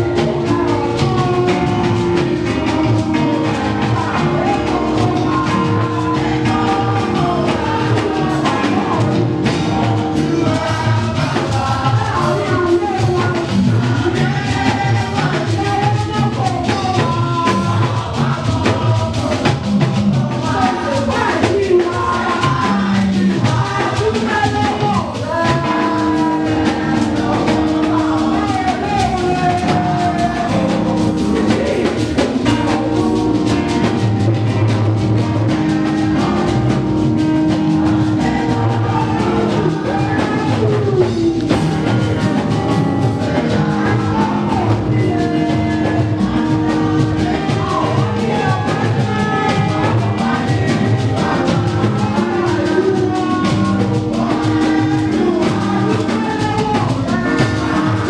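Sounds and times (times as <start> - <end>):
congregation singing a hymn: 0.0 - 58.0
driving drum beat: 0.0 - 58.0.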